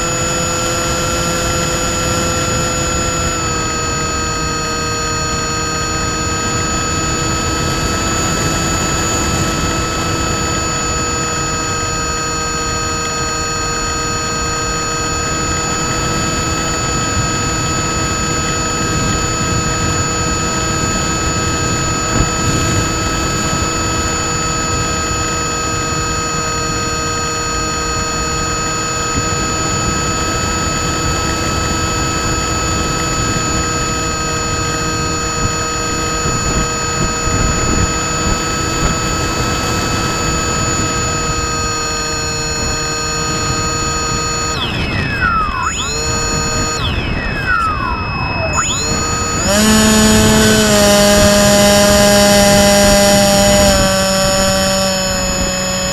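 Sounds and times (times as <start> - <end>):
electric motor propeller whine: 0.0 - 55.9.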